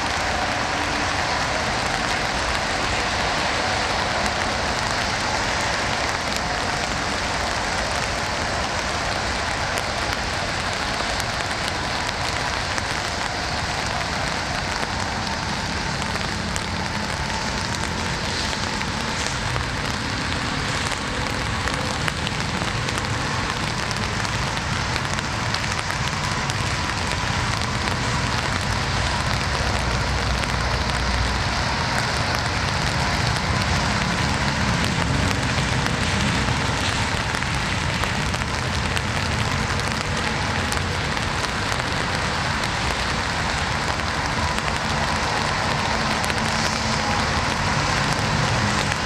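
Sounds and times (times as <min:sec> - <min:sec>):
raindrop ticks: 0:00.0 - 0:49.0
steady rain hiss: 0:00.0 - 0:49.0.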